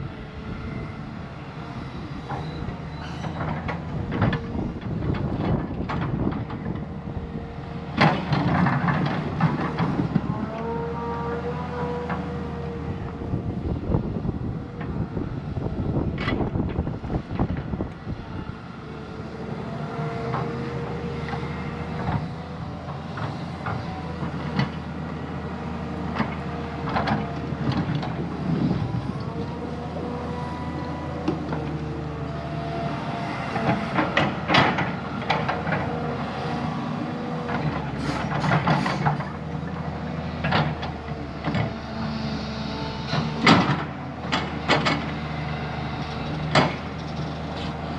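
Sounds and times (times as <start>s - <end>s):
diesel engine running: 0.0s - 47.9s
engine whine: 0.0s - 47.9s.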